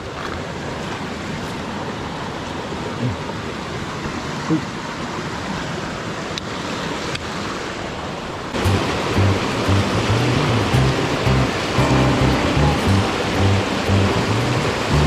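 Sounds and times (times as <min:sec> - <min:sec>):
stream water rushing: 0:00.4 - 0:15.0.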